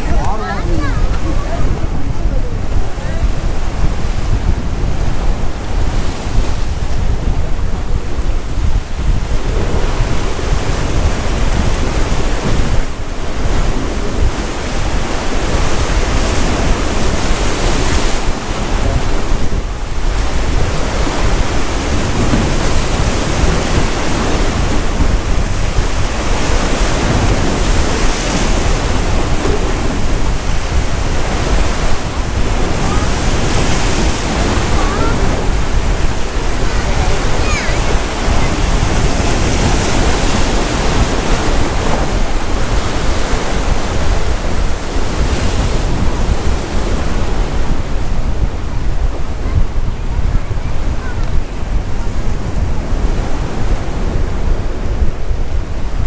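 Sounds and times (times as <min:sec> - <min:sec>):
sea surf washing on breakwater: 0:00.0 - 0:56.0
wind rumbling on microphone: 0:00.0 - 0:56.0.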